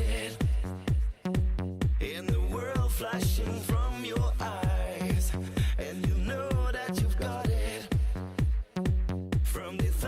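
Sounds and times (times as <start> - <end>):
dance-pop music: 0.0 - 10.0
kick drum beat: 0.0 - 10.0.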